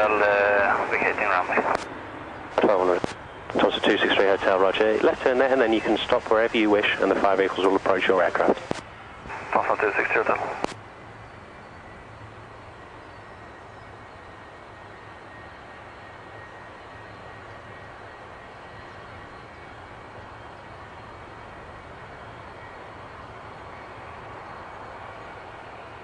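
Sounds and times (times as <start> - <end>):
jet engine running: 0.0 - 26.0.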